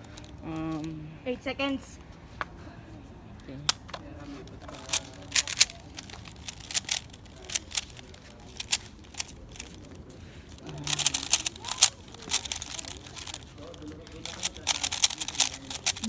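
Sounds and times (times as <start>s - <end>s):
puzzle cube turning clatter: 0.0s - 0.9s, 3.7s - 16.0s.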